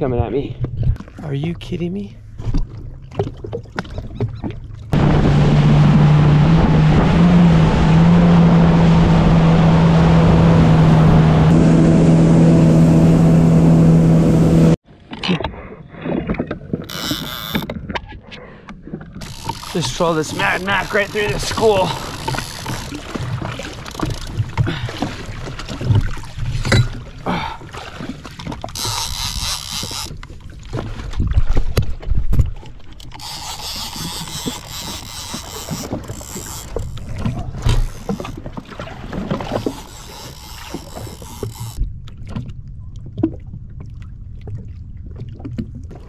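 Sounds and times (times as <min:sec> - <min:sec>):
water splashing against hull: 0:00.0 - 0:46.0.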